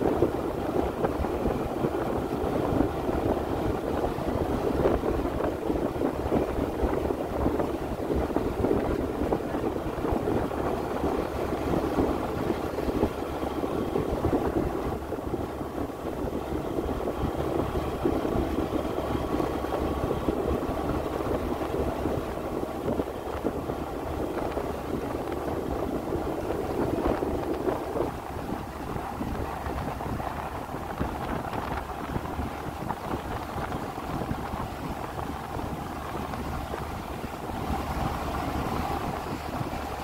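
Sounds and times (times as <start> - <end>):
vehicle engine running: 0.0 - 40.0
wind buffeting microphone: 0.0 - 40.0.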